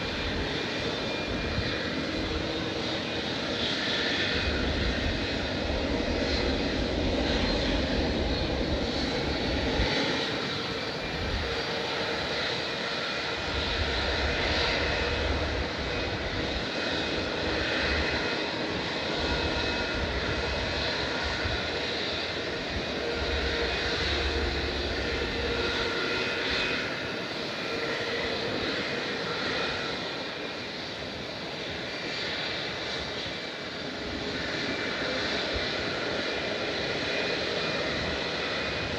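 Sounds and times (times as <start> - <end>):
jet engines running: 0.0 - 38.9.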